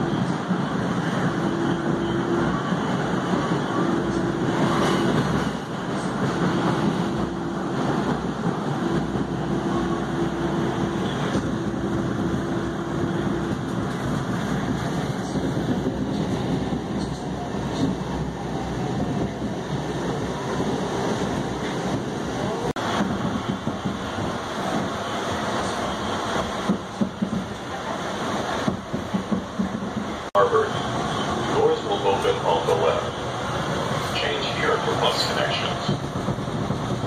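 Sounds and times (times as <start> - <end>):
wheels rumbling on rail: 0.0 - 37.0.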